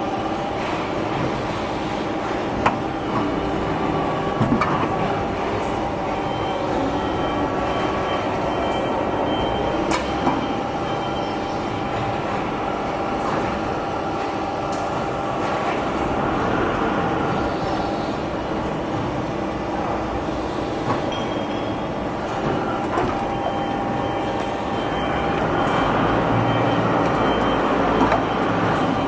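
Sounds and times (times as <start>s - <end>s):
hydraulic press drone: 0.0s - 29.0s.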